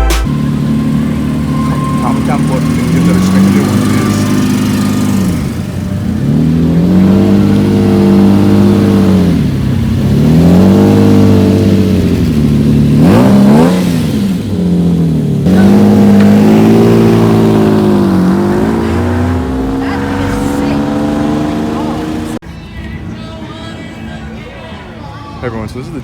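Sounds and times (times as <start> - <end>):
car engine revving: 0.0 - 22.4.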